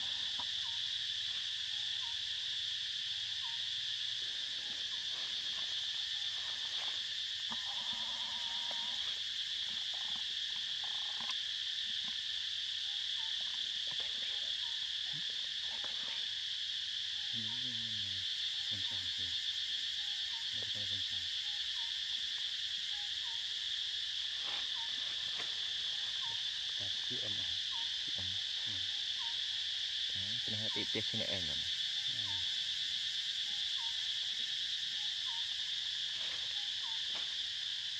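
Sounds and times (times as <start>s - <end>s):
insect chorus drone: 0.0s - 37.9s.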